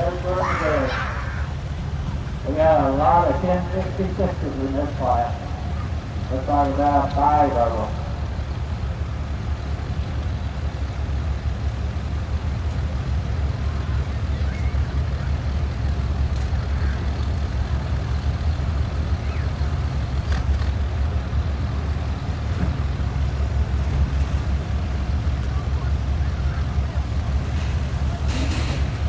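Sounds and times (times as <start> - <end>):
tractor engine rumbling under load: 0.0 - 29.0.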